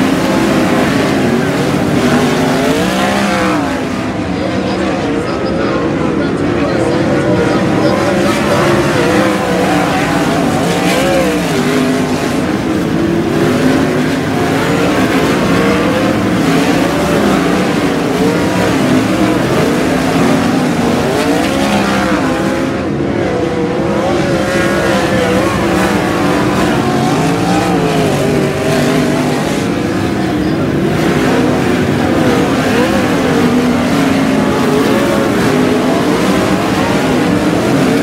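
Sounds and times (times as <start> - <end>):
racing car engines: 0.0 - 38.0.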